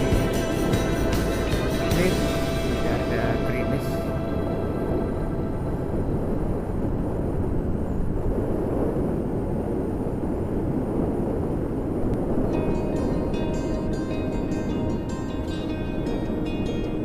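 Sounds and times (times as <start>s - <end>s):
motorcycle engine drone: 0.0s - 17.0s
road noise: 0.0s - 17.0s
wind rush: 0.0s - 17.0s.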